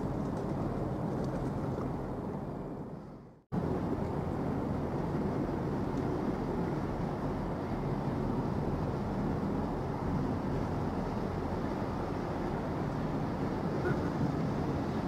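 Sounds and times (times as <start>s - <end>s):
ship engines rumbling: 1.9s - 15.0s.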